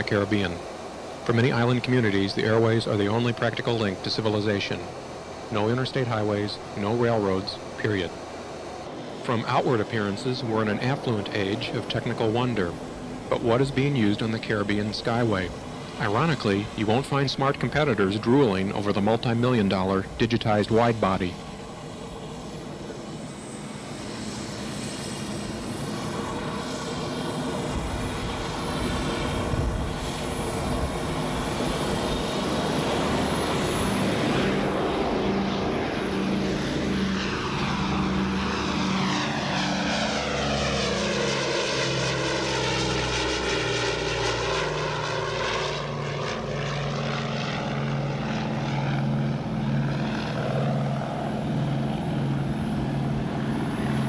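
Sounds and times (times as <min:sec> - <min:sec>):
propeller airliner engines droning: 0:00.0 - 0:54.0.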